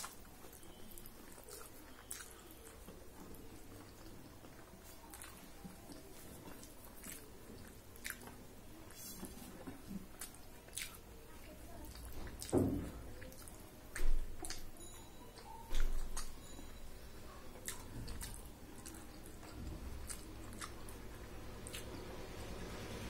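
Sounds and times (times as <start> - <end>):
person chewing with wet smacks: 0.0 - 23.0.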